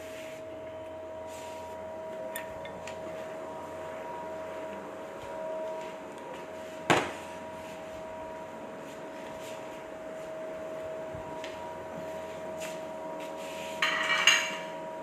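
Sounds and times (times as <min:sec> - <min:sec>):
high-pitched electrical hum: 0:00.0 - 0:15.0.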